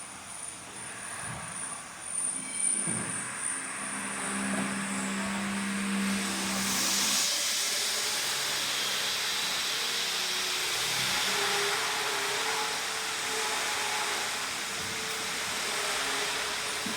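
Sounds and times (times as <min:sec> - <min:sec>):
rushing hiss of air: 0:03.3 - 0:16.9.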